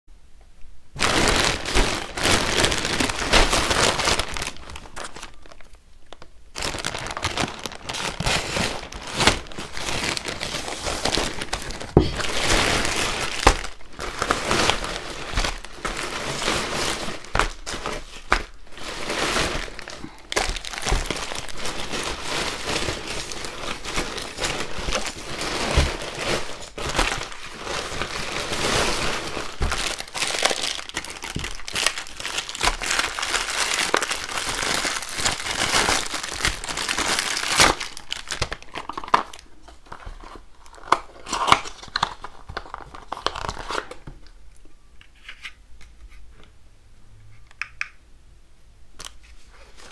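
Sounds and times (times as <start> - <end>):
plastic bags crinkling: 0.9 - 44.1.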